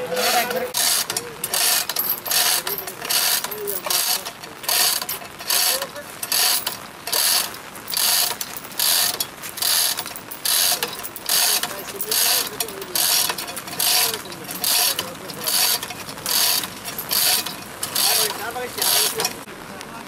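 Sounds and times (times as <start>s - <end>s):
chain links clattering: 0.2s - 19.4s
ratchet pawl clicking: 0.7s - 19.4s.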